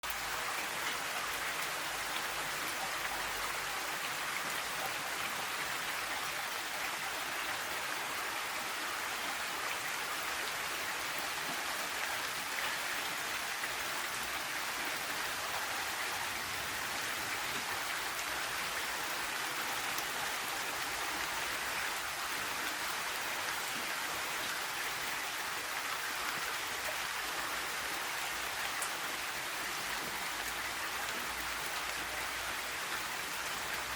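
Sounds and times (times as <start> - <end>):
rain pattering on surfaces: 0.0 - 33.9.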